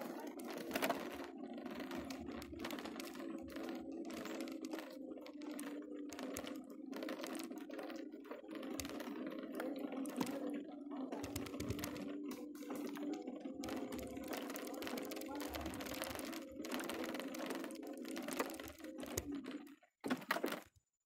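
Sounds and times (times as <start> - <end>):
clicks and crackles: 0.0 - 20.9.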